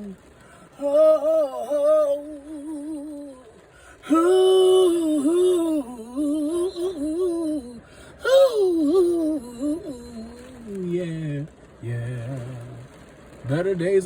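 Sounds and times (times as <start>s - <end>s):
man singing with vibrato: 0.0s - 12.9s.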